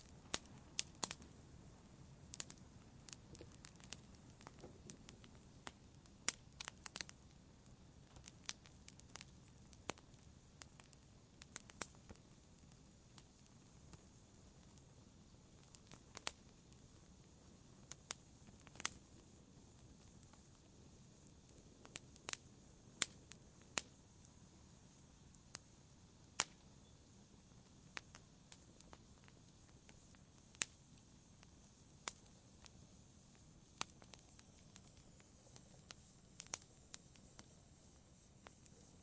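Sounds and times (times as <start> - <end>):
faint steady hiss: 0.0 - 39.0
wood fire crackling: 0.0 - 39.0.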